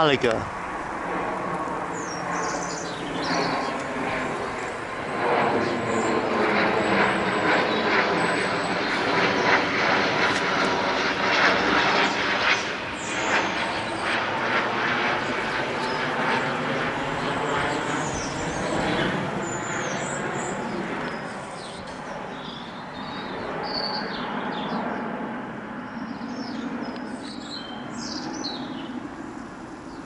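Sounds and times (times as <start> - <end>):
jet engines passing overhead: 0.0 - 30.0.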